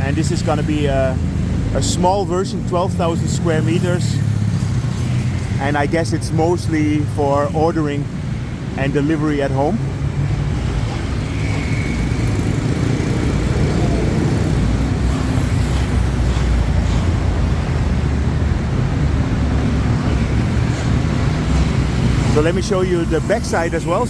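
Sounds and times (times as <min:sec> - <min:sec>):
road traffic rumbling: 0:00.0 - 0:24.0.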